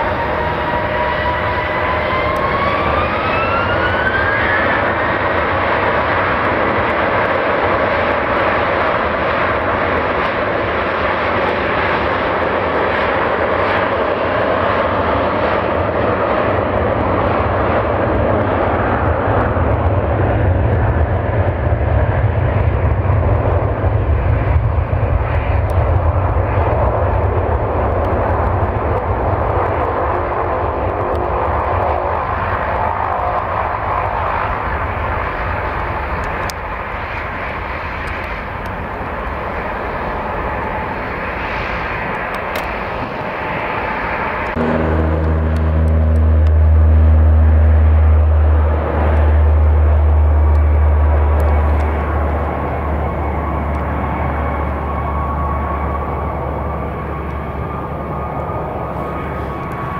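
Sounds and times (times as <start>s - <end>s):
jet airliner taking off: 0.0s - 59.9s.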